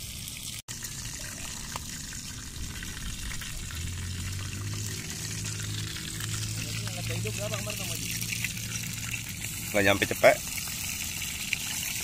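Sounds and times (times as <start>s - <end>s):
seafood frying in oil: 0.0s - 12.0s
low steady hum: 0.7s - 12.0s.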